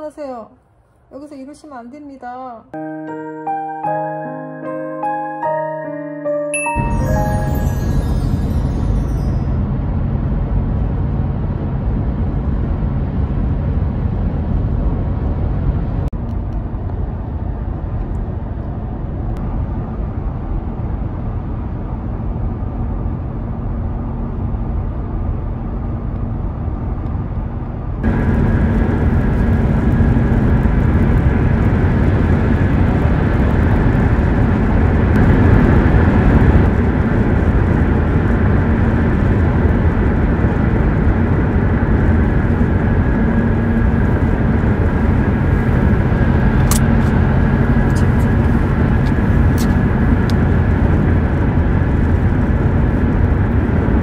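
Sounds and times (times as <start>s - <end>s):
road and engine rumble: 8.1s - 54.0s.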